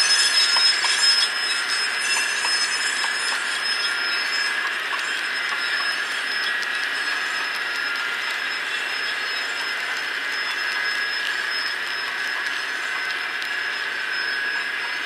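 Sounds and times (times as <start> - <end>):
model train cars rolling: 0.0 - 13.2
thin high squeal: 0.0 - 15.0.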